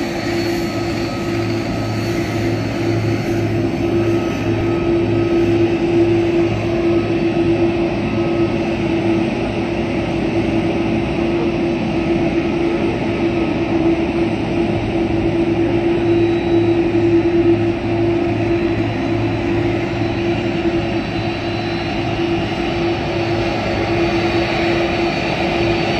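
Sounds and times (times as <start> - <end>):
jet engines taxiing: 0.0 - 25.9.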